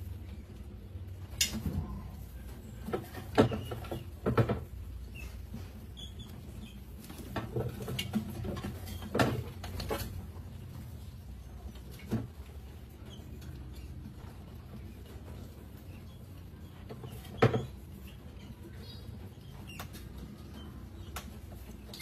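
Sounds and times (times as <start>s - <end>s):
mice scrabbling on glass: 1.2s - 22.0s.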